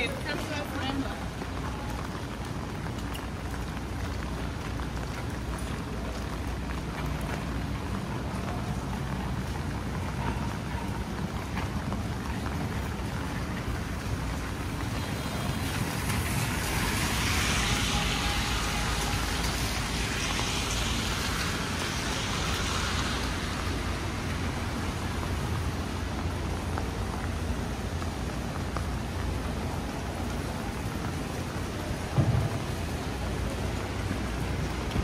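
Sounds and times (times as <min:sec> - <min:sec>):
heavy rain on street: 0:00.0 - 0:35.0
low traffic rumble: 0:00.0 - 0:35.0
tyres hissing on wet road: 0:00.0 - 0:35.0.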